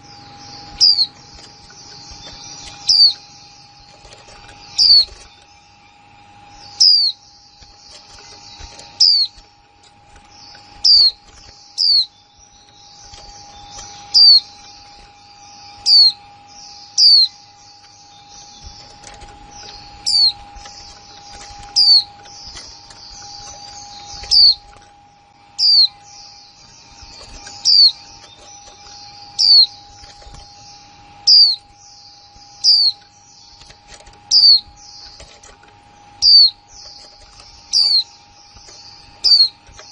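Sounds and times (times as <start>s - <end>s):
high twittering chatter: 0.0s - 39.9s.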